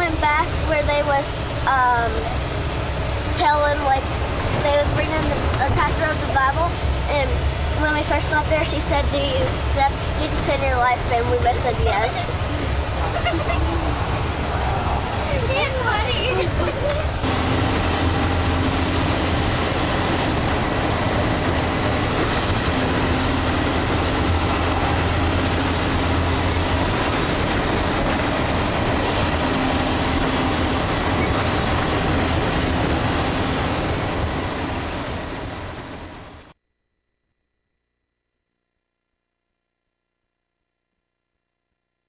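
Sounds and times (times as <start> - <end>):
bus engine and road noise: 0.0 - 36.6.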